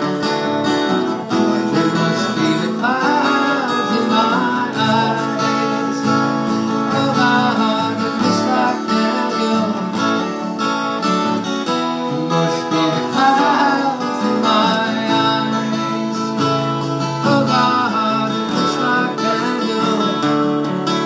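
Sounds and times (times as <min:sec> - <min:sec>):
acoustic guitar strumming: 0:00.0 - 0:21.0
man singing: 0:01.2 - 0:10.5, 0:11.5 - 0:21.0.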